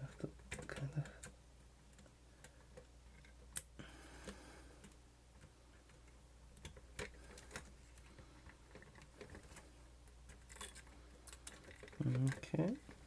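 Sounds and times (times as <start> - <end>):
small parts clicking and tapping: 0.0 - 13.0.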